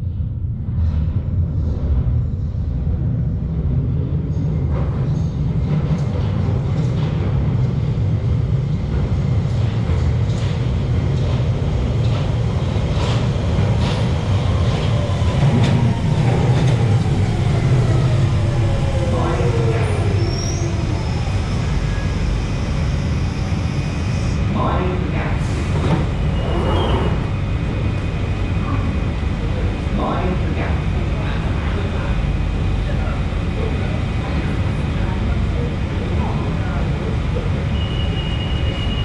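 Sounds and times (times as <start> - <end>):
train rumble: 0.0 - 39.0.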